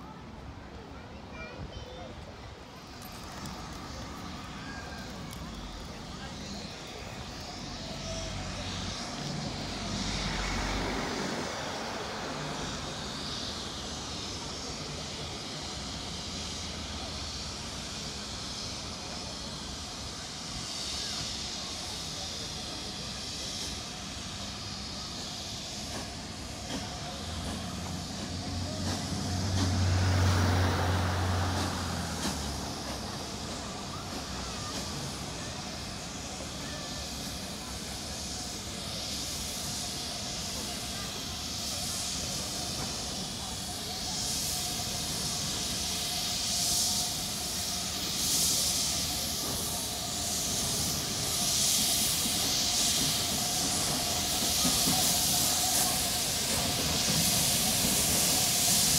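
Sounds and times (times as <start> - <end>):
steam train running slowly: 0.0 - 58.9.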